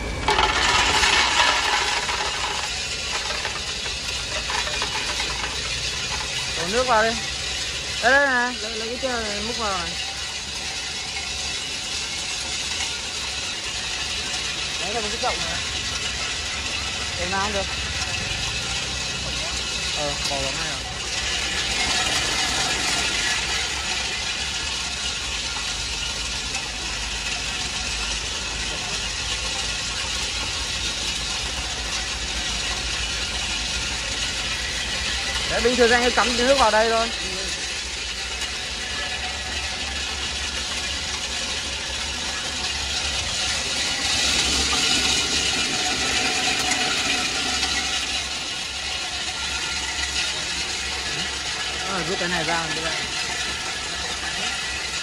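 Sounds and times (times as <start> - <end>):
shells rattling in a machine: 0.0 - 55.0.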